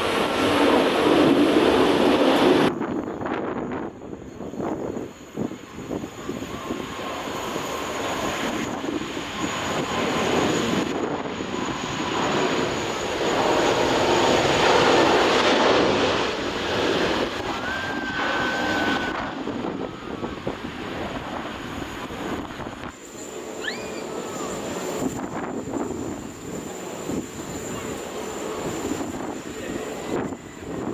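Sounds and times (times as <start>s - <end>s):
jet engines passing by: 0.0s - 30.9s
faint whine: 1.6s - 30.9s.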